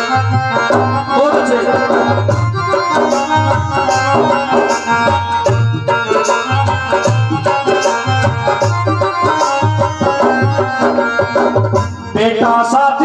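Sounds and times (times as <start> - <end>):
held melody line: 0.0 - 13.0
hand drum beat: 0.3 - 12.0.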